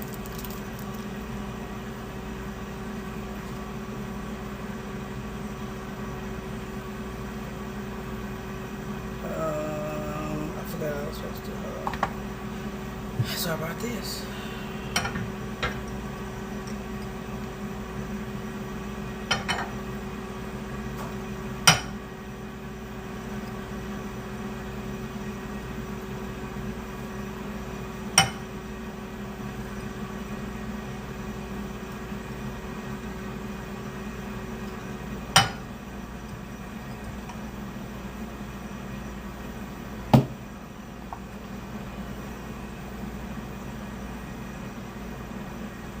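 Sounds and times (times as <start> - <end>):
appliance hum: 0.0 - 46.0.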